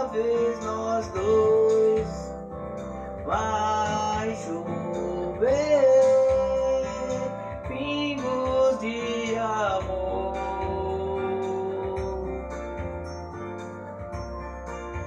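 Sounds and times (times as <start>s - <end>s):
man singing: 0.0s - 2.4s, 3.1s - 12.7s
nylon-string guitar: 0.0s - 15.0s.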